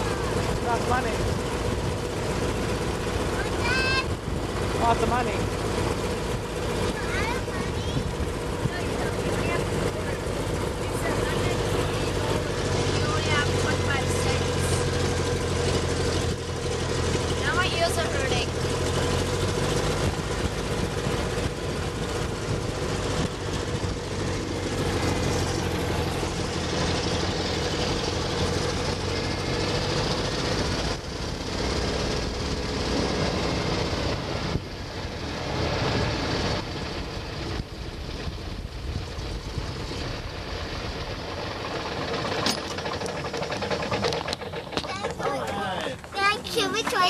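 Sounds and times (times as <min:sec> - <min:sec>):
propeller plane engine running: 0:00.0 - 0:47.0.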